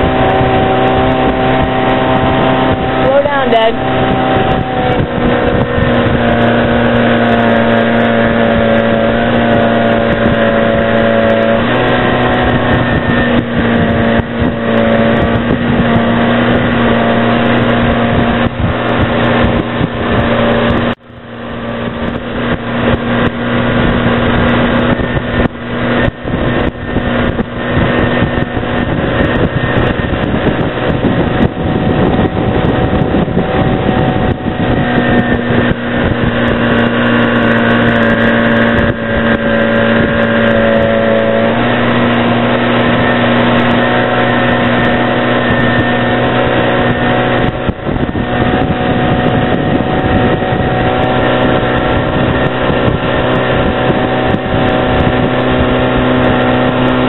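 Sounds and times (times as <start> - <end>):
motorboat engine running: 0.0 - 57.0.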